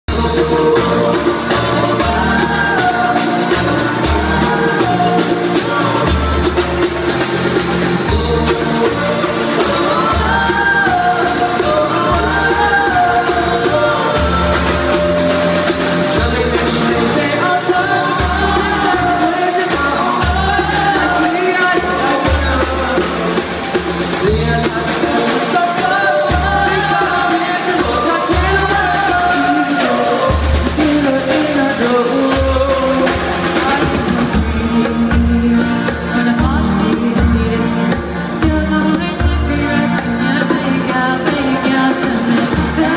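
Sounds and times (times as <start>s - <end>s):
bass: 0.0s - 42.9s
drum kit: 0.0s - 42.9s
lead vocal: 0.1s - 42.9s.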